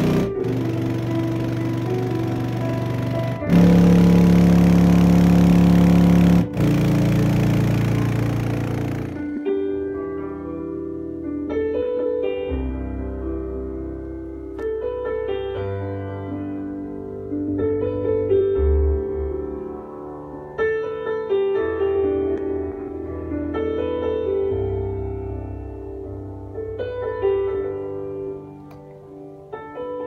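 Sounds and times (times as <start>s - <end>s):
piano music with deep bass: 0.0s - 30.0s.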